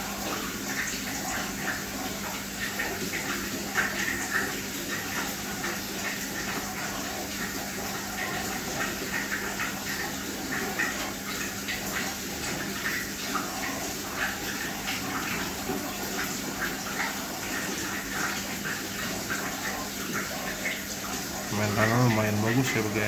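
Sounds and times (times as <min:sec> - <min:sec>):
aquarium water bubbling: 0:00.0 - 0:23.0.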